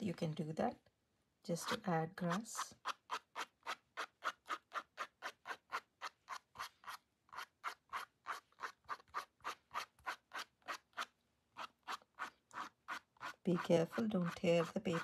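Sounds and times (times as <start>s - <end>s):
card scraping wet paint on paper: 1.6s - 15.0s.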